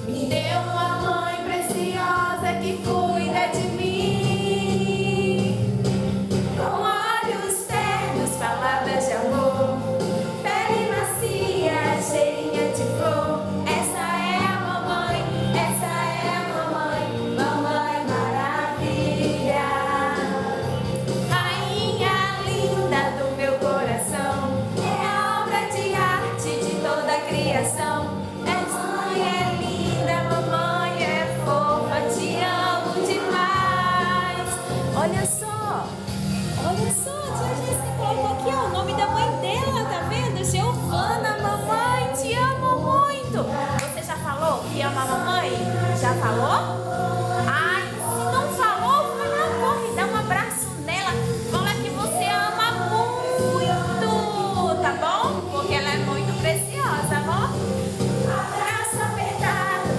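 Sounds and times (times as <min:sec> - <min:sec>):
several voices singing: 0:00.0 - 0:59.9.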